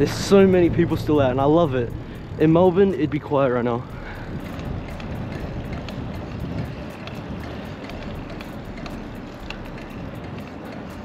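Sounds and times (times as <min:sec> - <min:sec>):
bike tyre noise on road: 0:00.0 - 0:11.0
wind rushing over microphone: 0:00.0 - 0:11.0.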